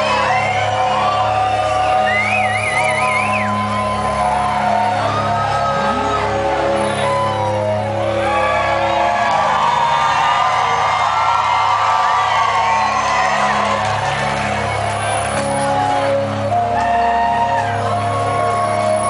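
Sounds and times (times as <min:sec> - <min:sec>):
crowd shouts and whoops: 0:00.0 - 0:19.0.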